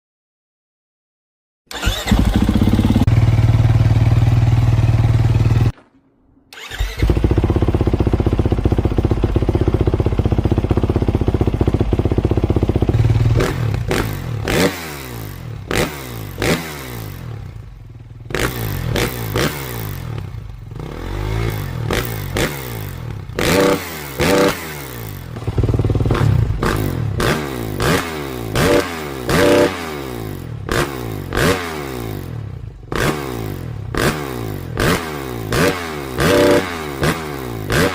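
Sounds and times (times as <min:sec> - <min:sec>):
motocross bike engine revving: 0:01.7 - 0:05.7, 0:06.5 - 0:37.9.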